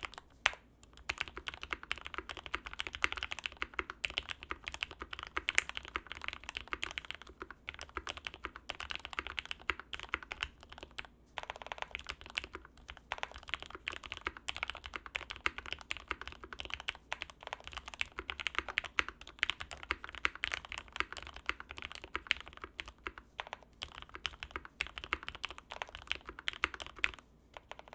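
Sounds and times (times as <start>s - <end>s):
mechanical keyboard typing: 0.0s - 27.9s.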